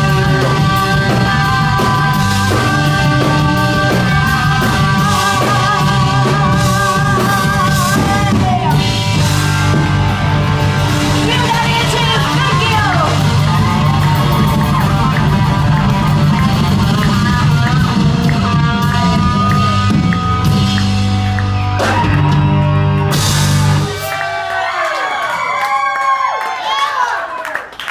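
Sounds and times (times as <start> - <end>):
live rock band playing: 0.0 - 24.4
crowd yelling and cheering: 0.0 - 27.9.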